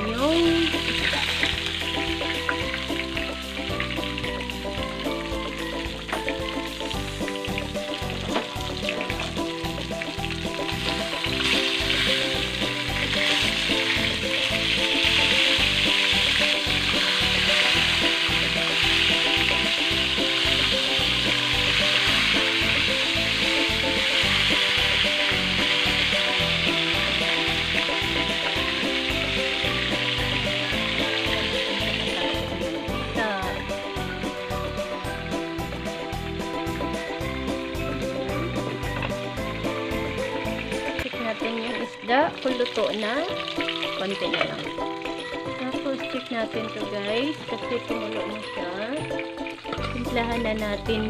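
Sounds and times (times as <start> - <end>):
fish sizzling in hot oil: 0.2 - 51.0.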